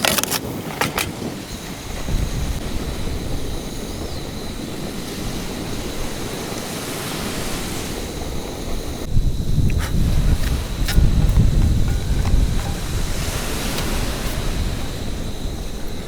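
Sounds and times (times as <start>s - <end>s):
wind: 0.0s - 16.0s
surf rushing: 1.2s - 16.0s
wave washing up: 1.2s - 16.0s.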